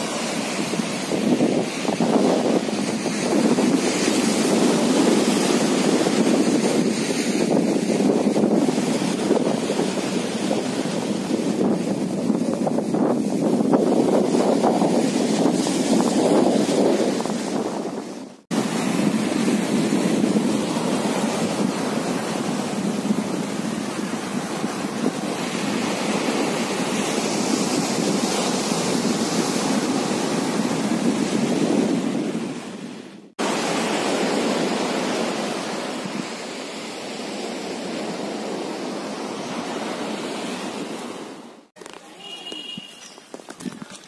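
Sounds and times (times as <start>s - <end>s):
wind on microphone: 0.0s - 41.6s
sea waves washing on beach: 0.0s - 44.0s.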